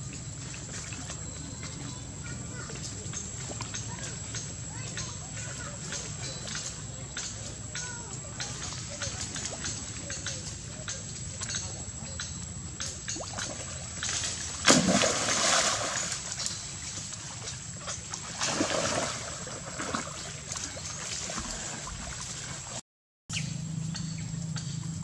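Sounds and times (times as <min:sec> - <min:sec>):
water splashing and sloshing: 0:00.0 - 0:22.8.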